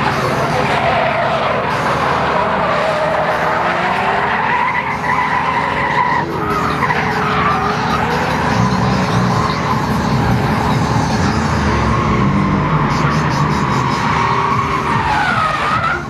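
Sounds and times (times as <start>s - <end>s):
car engine running hard: 0.0s - 16.0s
tyres squealing on asphalt: 0.0s - 16.0s.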